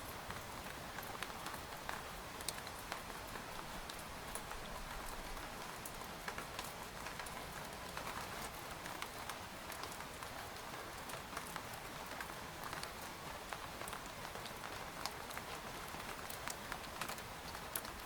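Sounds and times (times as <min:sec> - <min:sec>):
rain pattering on tent: 0:00.0 - 0:18.0.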